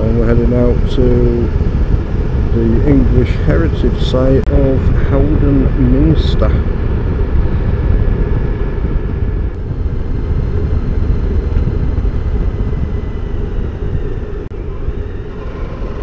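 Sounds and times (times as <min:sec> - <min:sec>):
motorcycle engine rumbling: 0:00.0 - 0:16.0
rush of wind while riding: 0:00.0 - 0:16.0.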